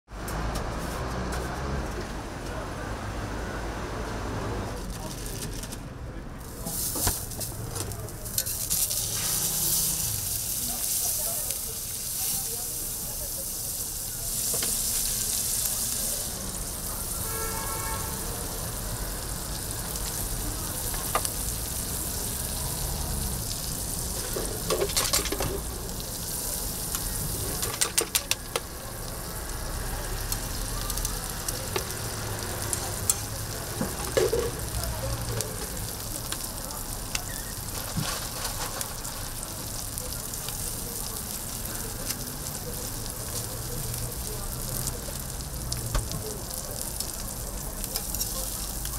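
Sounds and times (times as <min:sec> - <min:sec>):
food sizzling on griddle: 0:06.4 - 0:48.9.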